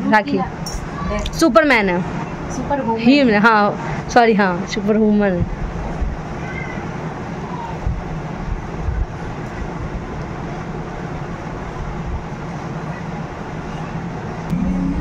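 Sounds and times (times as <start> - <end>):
vehicle rumble and hiss: 0.0 - 15.0.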